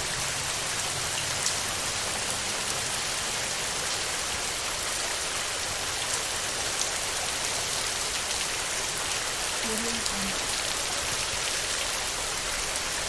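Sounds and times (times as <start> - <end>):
heavy rain on a tin roof: 0.0 - 13.0.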